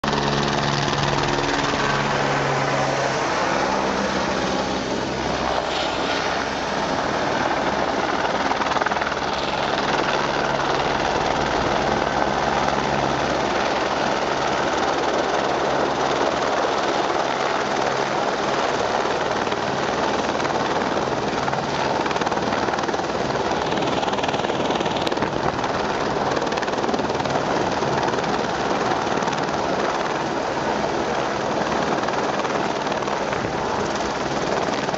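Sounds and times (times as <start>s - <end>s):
helicopter rotor and engine: 0.0s - 34.9s.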